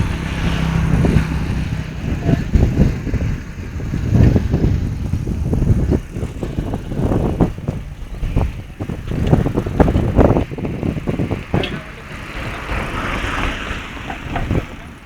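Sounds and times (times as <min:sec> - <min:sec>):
road and vehicle noise: 0:00.0 - 0:15.0
wind buffeting microphone: 0:00.0 - 0:15.0.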